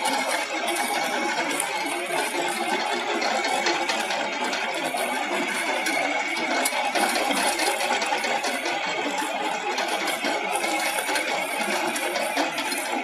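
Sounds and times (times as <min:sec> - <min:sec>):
tractor engine running: 0:00.0 - 0:13.0
trencher cutting through soil: 0:00.0 - 0:13.0.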